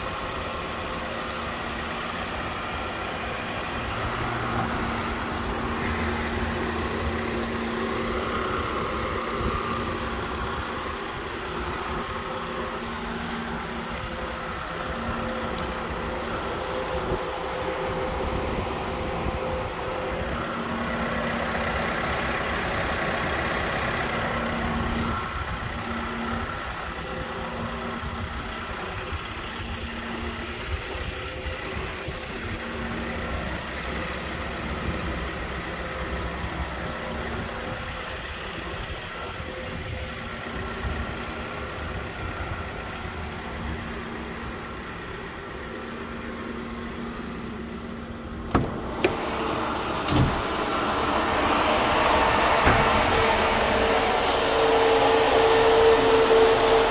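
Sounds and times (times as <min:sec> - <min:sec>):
van engine idling: 0:00.0 - 0:56.9.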